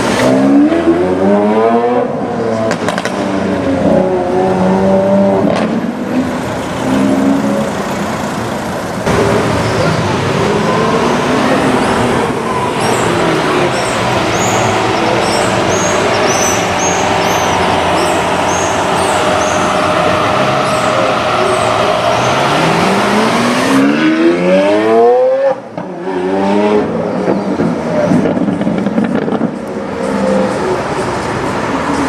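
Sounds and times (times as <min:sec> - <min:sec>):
car engine revving: 0:00.0 - 0:31.7.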